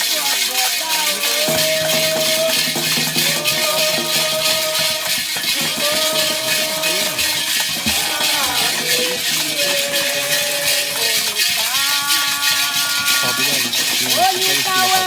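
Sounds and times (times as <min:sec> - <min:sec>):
rattles shaking rhythmically: 0:00.0 - 0:15.0
person singing long phrases: 0:01.1 - 0:15.0.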